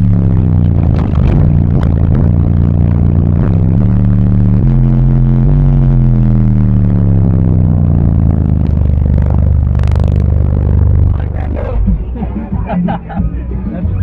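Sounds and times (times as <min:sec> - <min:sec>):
deep bass notes from subwoofers: 0:00.0 - 0:14.0.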